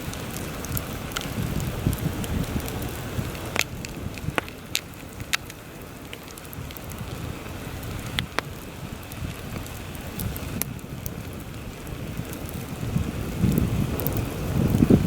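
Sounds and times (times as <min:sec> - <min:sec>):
campfire crackling: 0:00.0 - 0:15.0
heavy wind gusting: 0:00.0 - 0:15.0
sharp pops of fire: 0:00.0 - 0:15.0.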